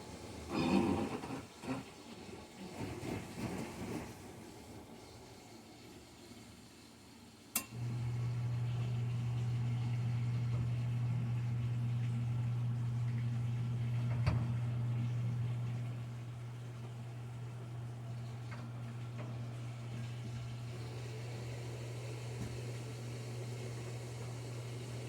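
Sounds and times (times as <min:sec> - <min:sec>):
water pump humming: 0:01.6 - 0:25.0.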